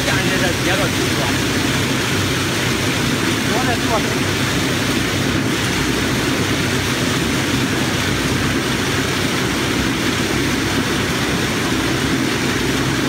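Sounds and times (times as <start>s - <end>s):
rotating drum roaster running: 0.0s - 13.0s.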